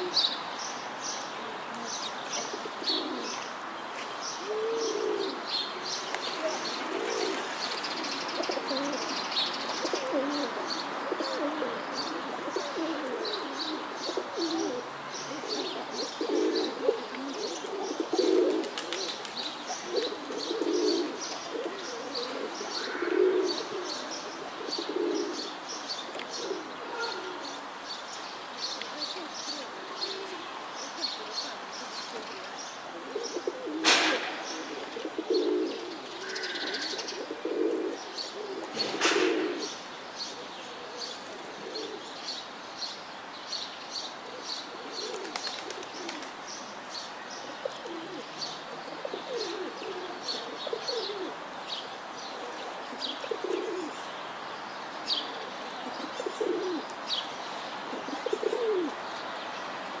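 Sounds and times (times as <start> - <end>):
pigeons cooing: 0.0 - 0.3, 1.4 - 3.4, 4.3 - 27.6, 28.9 - 42.1, 44.2 - 46.4, 47.4 - 51.5, 52.3 - 54.1, 55.0 - 57.2, 57.8 - 59.0.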